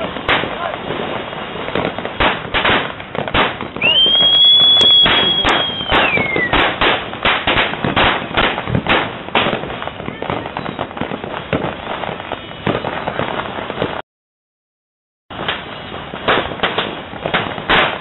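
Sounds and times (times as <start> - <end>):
firecrackers banging: 0.0 - 14.0, 15.3 - 18.0
whistling firework: 0.0 - 14.0, 15.3 - 18.0.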